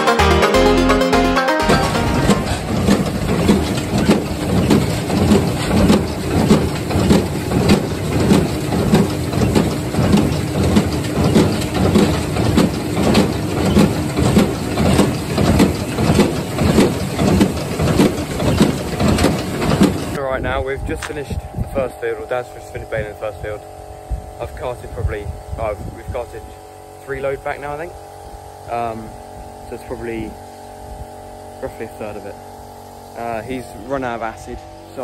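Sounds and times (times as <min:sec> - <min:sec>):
tractor and baler hum: 0:00.1 - 0:20.2, 0:20.8 - 0:35.0.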